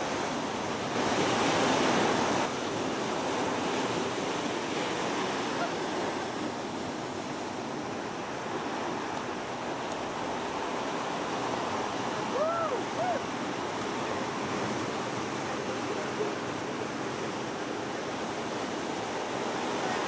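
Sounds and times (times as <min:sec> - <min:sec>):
small waves breaking on beach: 0:00.0 - 0:20.0.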